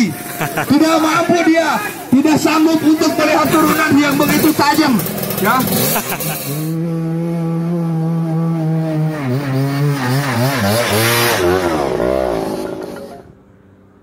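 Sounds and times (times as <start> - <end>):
dirt bike engine revving: 0.0 - 13.4.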